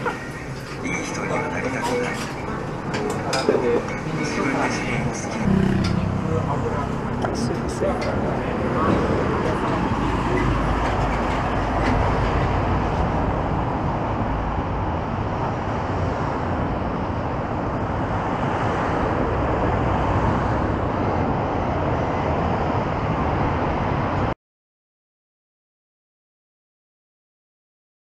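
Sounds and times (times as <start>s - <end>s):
road traffic rumble and hiss: 0.0s - 24.4s.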